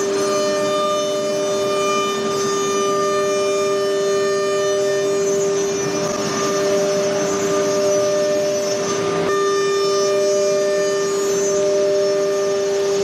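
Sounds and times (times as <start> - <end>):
cnc router spindle whine: 0.0 - 13.0.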